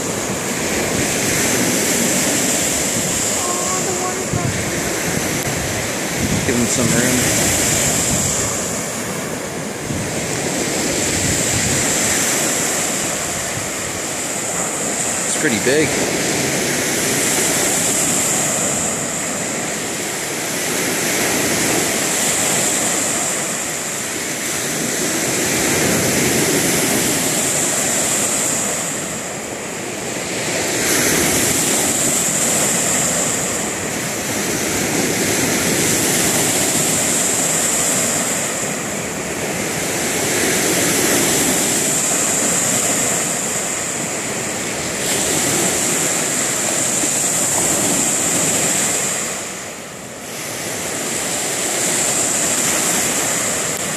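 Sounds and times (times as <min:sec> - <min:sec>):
waves breaking on beach: 0:00.0 - 0:53.9.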